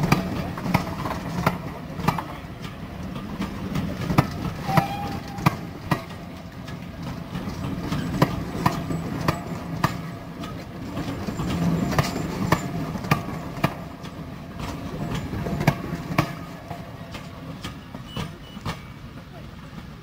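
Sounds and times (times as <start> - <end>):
train wheels clicking over rail joints: 0.0 - 20.0.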